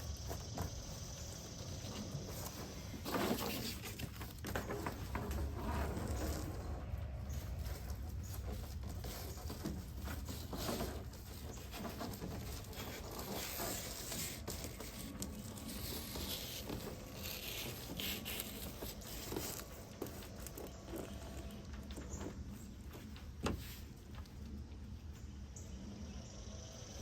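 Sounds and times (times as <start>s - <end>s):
rustling of foam liner panel: 0.1s - 25.2s.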